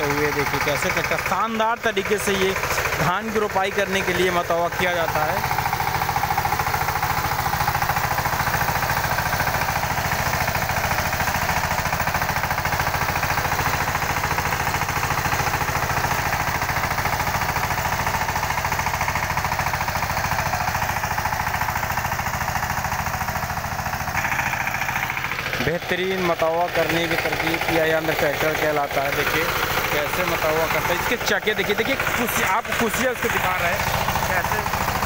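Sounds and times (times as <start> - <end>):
tractor engine chugging: 0.0 - 35.0.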